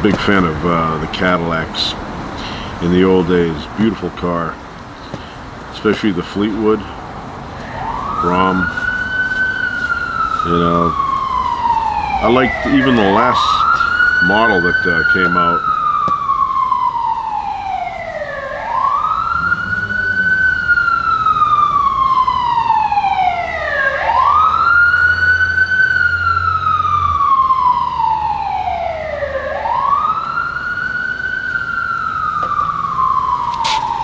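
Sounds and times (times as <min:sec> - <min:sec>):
fire engine siren wailing: 0:02.4 - 0:34.0.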